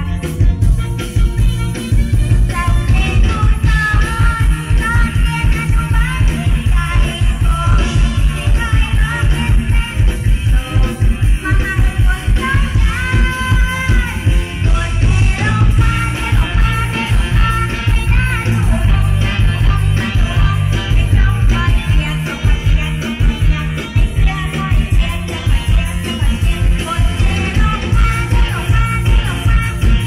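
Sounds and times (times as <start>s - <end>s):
band music with bass-heavy beat: 0.0s - 30.0s
woman singing: 0.0s - 30.0s.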